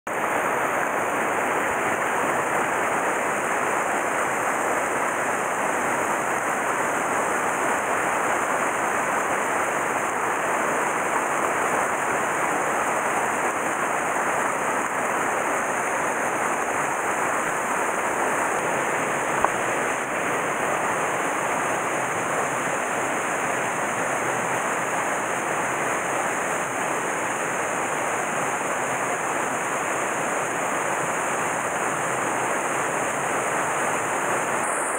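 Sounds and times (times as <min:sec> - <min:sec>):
stream water tumbling over rocks: 0:00.1 - 0:34.9.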